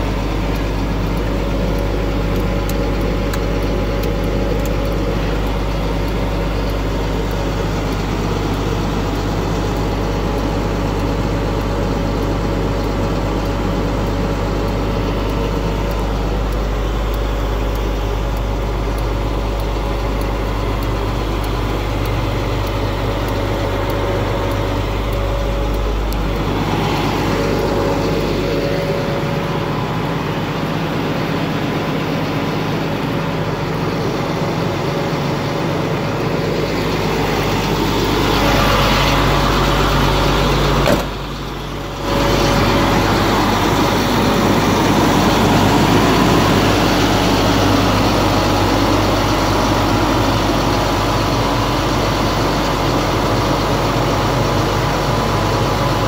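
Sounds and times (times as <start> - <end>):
truck engine humming: 0.0 - 56.0.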